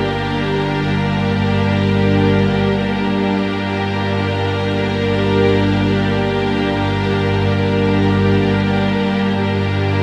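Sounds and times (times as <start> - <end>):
cello sustained chord drone: 0.0 - 10.0.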